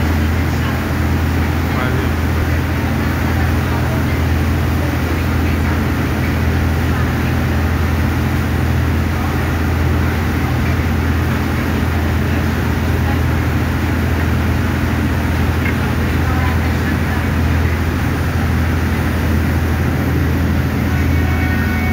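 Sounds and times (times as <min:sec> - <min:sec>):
boat engines droning: 0:00.0 - 0:21.9.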